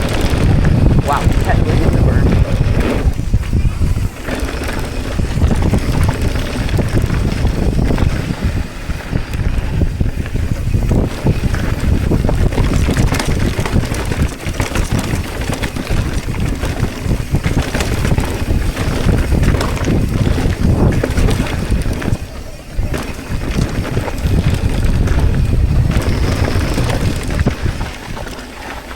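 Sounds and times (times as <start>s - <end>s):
bike tyres rumbling on trail: 0.0s - 28.9s
wind buffeting microphone: 0.0s - 28.9s.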